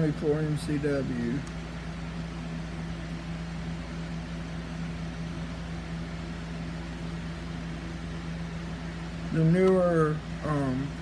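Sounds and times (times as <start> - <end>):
box fan humming: 0.0 - 11.0.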